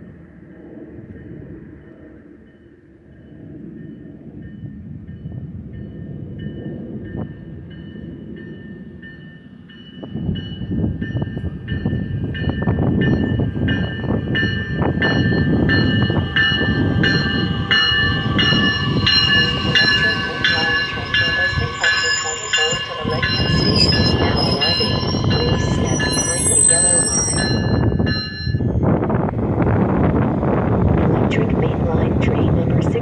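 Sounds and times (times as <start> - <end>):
train wheels rumbling on rails: 0.0 - 33.0
train bell ringing: 1.2 - 28.9.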